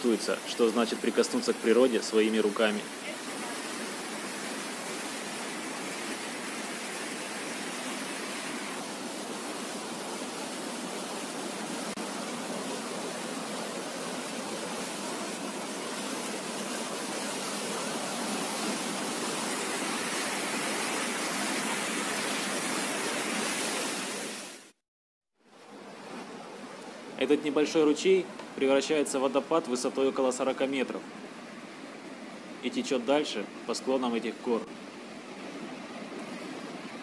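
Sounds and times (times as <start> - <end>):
fast-flowing river water rushing: 0.0 - 24.6, 25.7 - 37.0.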